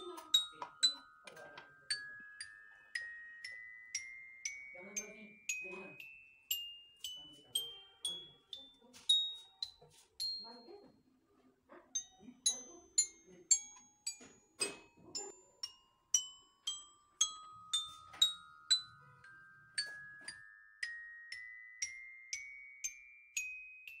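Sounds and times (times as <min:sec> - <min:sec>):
bell-like mallet notes: 0:00.0 - 0:11.2, 0:11.9 - 0:24.0.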